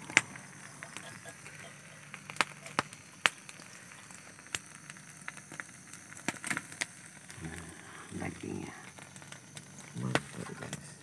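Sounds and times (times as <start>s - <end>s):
roasted fish crackling: 0.0s - 11.0s.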